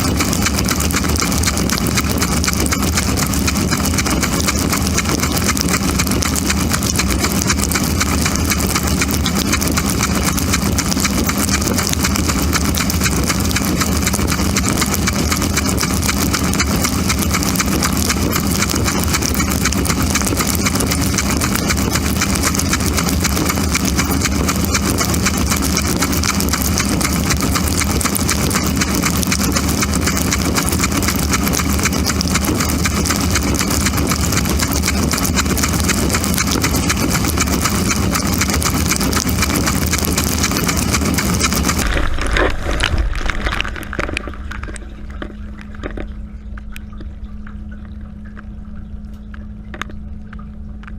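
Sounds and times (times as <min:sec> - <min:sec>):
water spraying and splashing: 0:00.0 - 0:45.9
dishwasher motor hum: 0:00.0 - 0:50.9.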